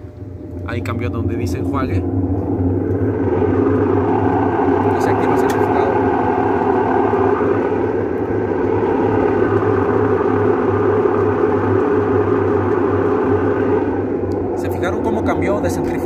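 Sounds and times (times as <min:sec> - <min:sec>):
loud steady bearing hum: 0:00.0 - 0:16.0
washing machine spinning: 0:00.0 - 0:16.0.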